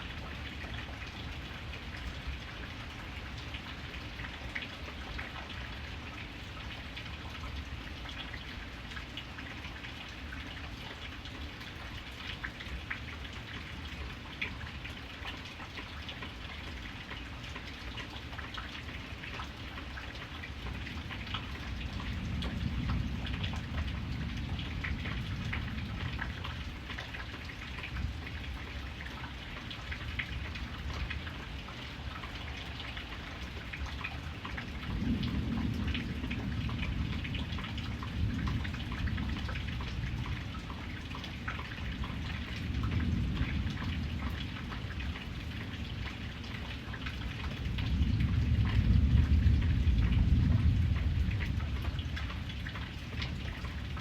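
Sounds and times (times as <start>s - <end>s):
steady rain: 0.0s - 54.0s
raindrops ticking: 0.1s - 54.0s.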